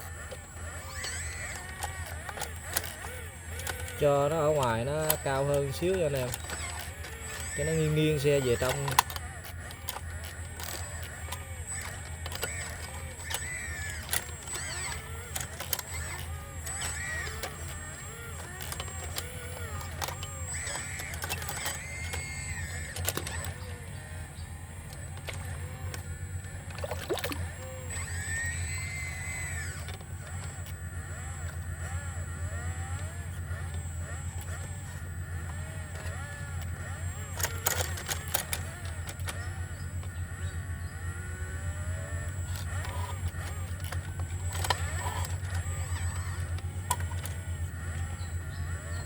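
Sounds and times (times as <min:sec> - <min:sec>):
excavator engine running: 0:00.0 - 0:49.0
high squeaks: 0:00.0 - 0:49.0
hydraulic whine: 0:00.0 - 0:49.0
sharp clicks: 0:00.0 - 0:49.0.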